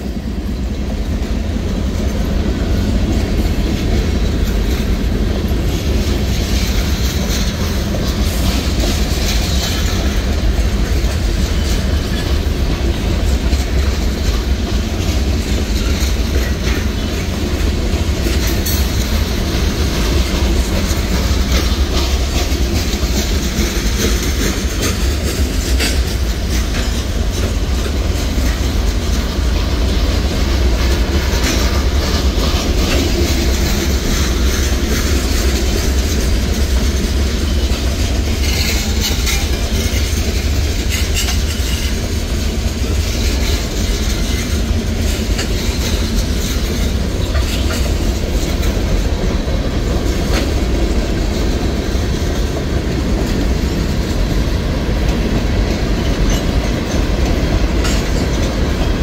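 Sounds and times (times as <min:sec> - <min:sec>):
train wheels rumbling on rail: 0:00.0 - 0:59.0
wheel clacks: 0:00.1 - 0:59.0.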